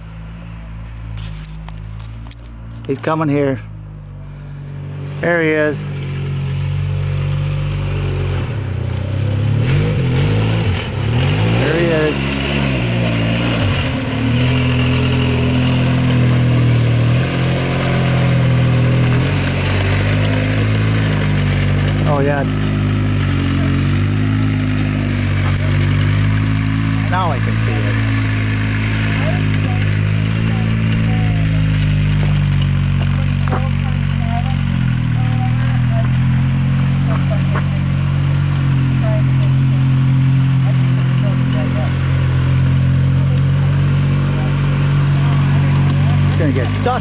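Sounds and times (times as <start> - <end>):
off-road vehicle engine running: 0.0 - 47.0.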